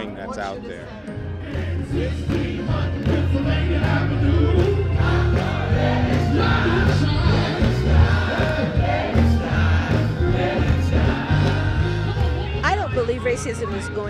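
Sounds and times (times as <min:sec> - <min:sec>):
singing with music: 0:00.0 - 0:14.0
strong bass line: 0:01.3 - 0:13.2.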